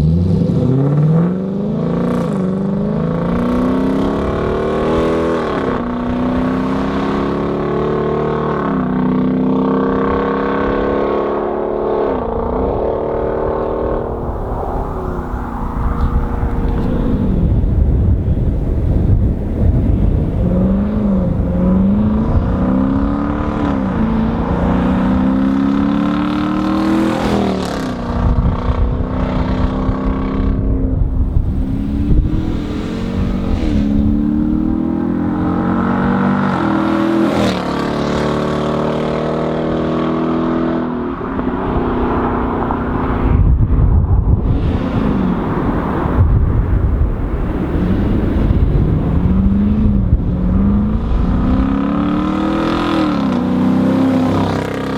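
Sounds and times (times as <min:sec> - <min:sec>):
car engine accelerating: 0:00.0 - 0:43.6, 0:44.3 - 0:54.9.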